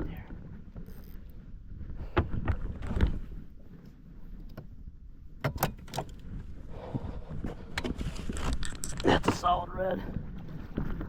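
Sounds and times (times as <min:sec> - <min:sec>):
wind rumble on microphone: 0:00.0 - 0:11.0
knocks and clatter of fishing gear: 0:00.2 - 0:04.8, 0:05.4 - 0:11.0.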